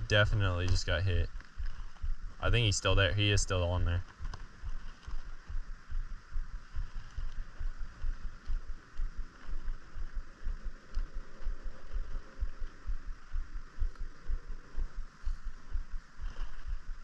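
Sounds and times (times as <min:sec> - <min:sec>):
faint steady hiss: 0:00.0 - 0:17.0
wind buffeting the microphone: 0:00.0 - 0:17.0.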